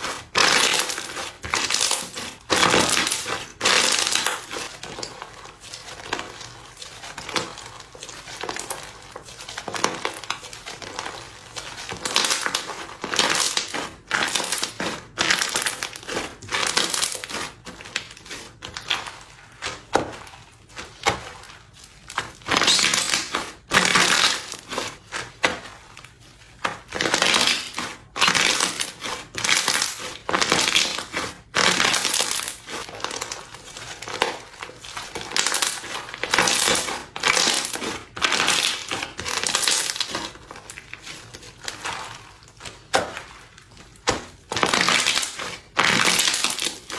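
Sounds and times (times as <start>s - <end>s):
crispy slime crackling and crunching: 0.0s - 46.9s.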